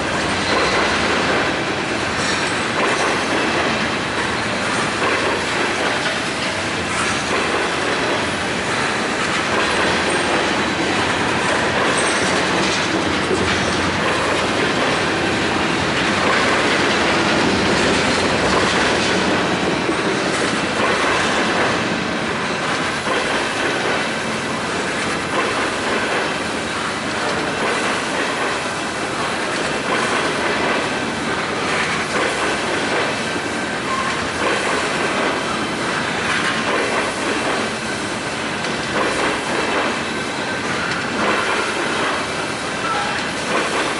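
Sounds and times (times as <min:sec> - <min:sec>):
train wheels clattering on track: 0:00.0 - 0:43.9.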